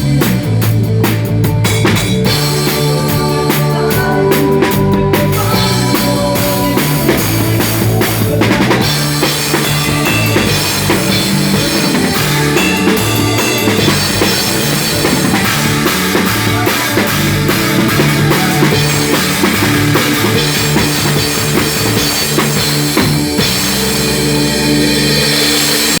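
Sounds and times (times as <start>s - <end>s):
bass and other instruments: 0.0s - 26.0s
rock drum kit playing: 0.0s - 26.0s.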